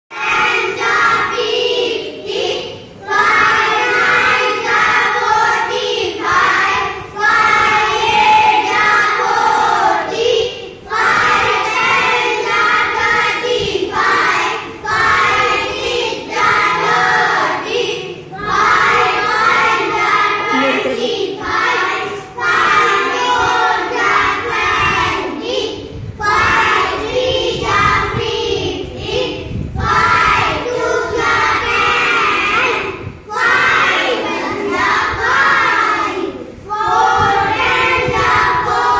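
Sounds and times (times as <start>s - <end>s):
children chanting in unison: 0.1s - 38.9s.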